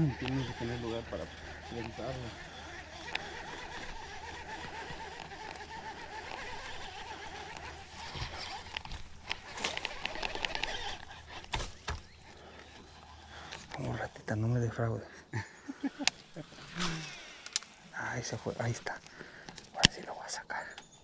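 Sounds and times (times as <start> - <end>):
fishing reel clicking: 0.0 - 14.2, 16.0 - 20.0.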